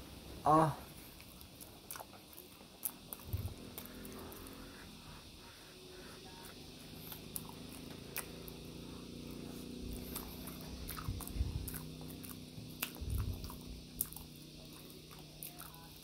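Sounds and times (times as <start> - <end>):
person chewing soft food: 0.9 - 16.0.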